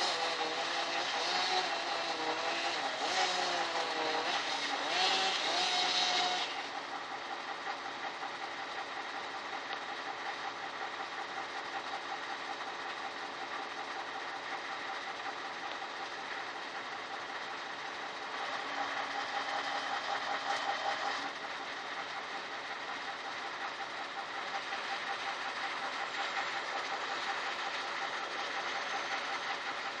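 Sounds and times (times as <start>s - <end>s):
crane engine revving: 0.0s - 30.0s.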